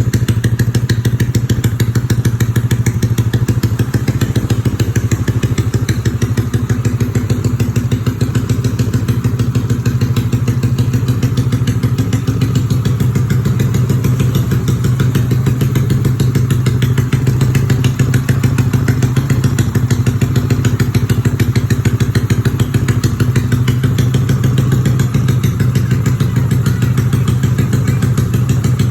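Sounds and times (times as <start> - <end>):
scooter engine idling: 0.0 - 28.9.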